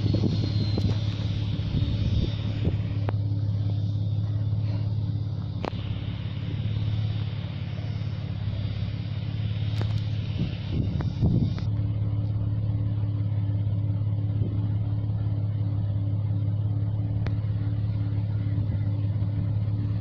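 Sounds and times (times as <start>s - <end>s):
diesel engine droning: 0.0s - 20.0s
high turbo whistle: 0.0s - 20.0s.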